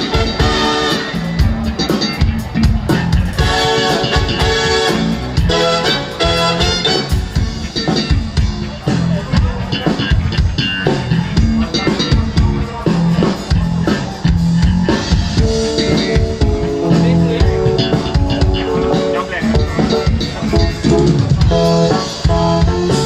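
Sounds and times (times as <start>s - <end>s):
bass guitar: 0.0s - 23.0s
drum kit steady beat: 0.0s - 23.0s
electric guitar: 0.0s - 23.0s
held chord notes: 0.0s - 23.0s.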